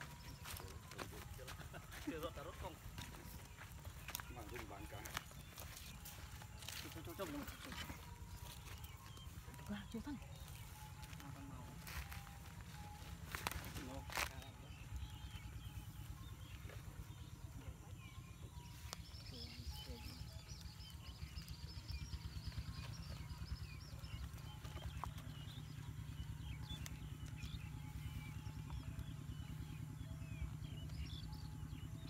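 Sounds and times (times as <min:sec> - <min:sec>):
steady low rumble: 0:02.3 - 0:32.0.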